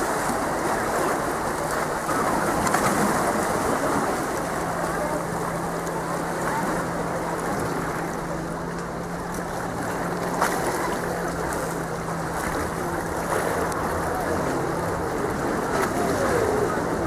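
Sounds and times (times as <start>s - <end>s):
sea waves washing against concrete: 0.0s - 17.0s.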